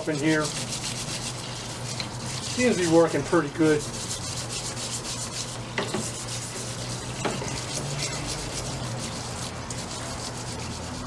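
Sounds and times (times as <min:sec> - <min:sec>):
pump hum: 0:00.0 - 0:11.0.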